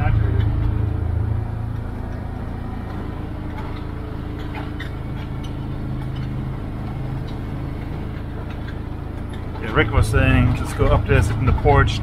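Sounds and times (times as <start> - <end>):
vehicle engine running: 0.0 - 12.0
light clicks and rattles: 1.5 - 12.0.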